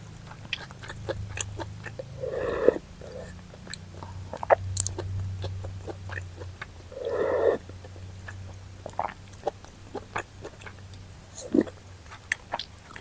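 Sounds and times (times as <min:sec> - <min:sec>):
person chewing food: 0:00.0 - 0:13.0
wet mouth clicks: 0:00.2 - 0:13.0.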